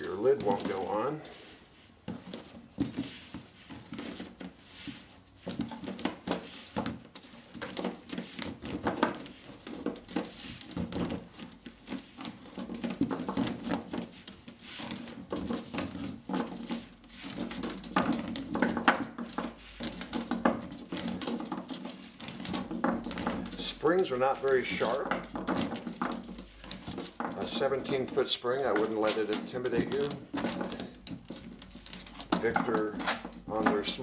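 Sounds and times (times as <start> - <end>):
steel spring scraping and clicking: 0.0 - 34.0.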